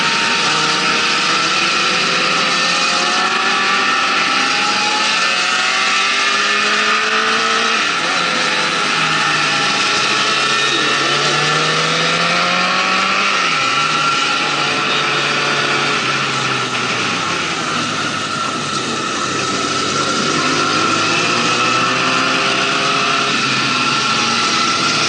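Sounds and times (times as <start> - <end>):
motorcycle engine accelerating: 0.0 - 25.0
wind and road noise: 0.0 - 25.0.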